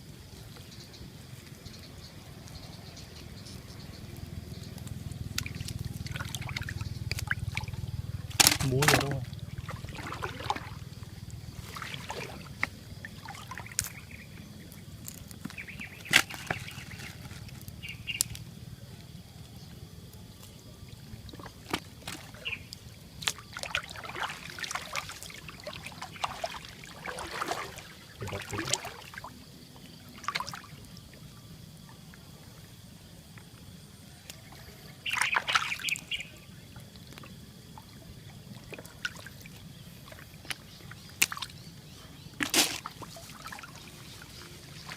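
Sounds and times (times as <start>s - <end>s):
water splashing and sloshing: 0.1s - 18.6s, 19.9s - 44.9s.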